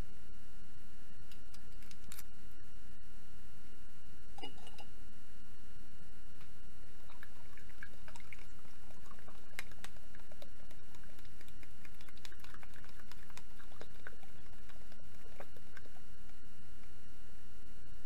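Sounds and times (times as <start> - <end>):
faint electrical whine: 0.0 - 18.0.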